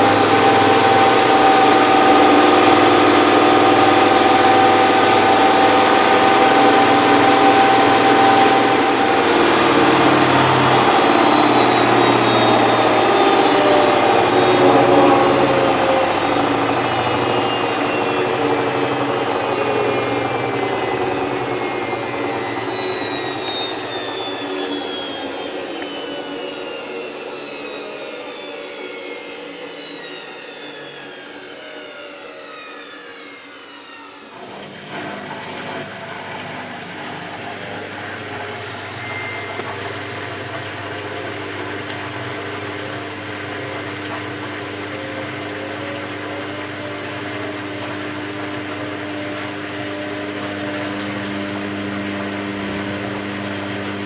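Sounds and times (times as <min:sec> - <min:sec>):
washing machine drum winding down: 0:00.0 - 0:26.9, 0:34.4 - 0:54.0
machine hum with electric drone: 0:00.0 - 0:30.9, 0:34.4 - 0:54.0.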